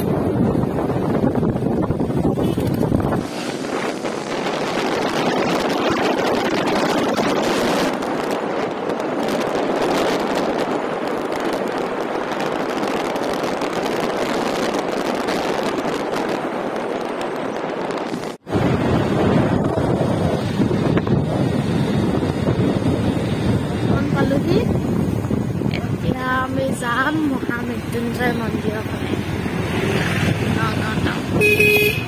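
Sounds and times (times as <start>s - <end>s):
motorcycle road noise: 0.0s - 32.0s
wind buffeting microphone: 0.0s - 32.0s
wind rush: 0.0s - 32.0s.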